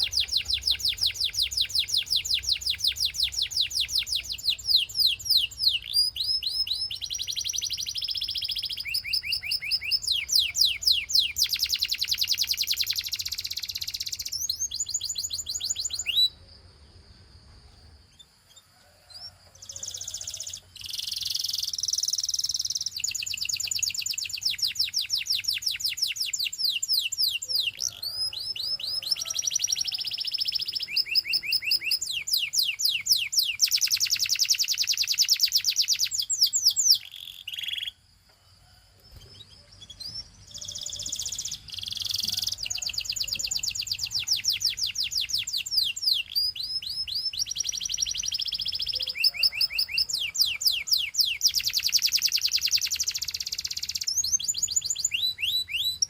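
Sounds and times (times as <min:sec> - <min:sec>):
canary singing trills: 0:00.0 - 0:16.8, 0:17.8 - 0:38.1, 0:38.7 - 0:56.0.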